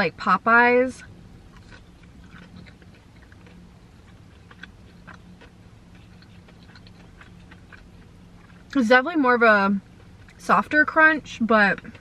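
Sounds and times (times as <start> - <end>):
faint low hum: 0.0 - 12.0
chewing soft breaded chicken: 1.4 - 12.0.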